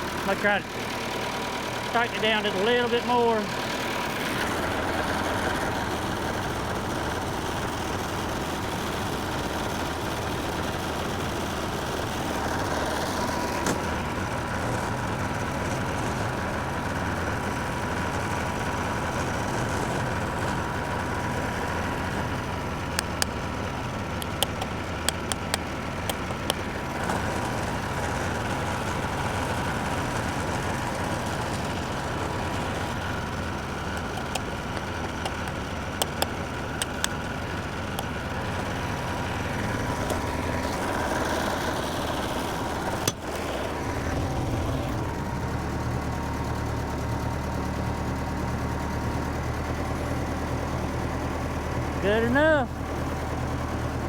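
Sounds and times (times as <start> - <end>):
dozer engine idling: 0.0 - 54.0.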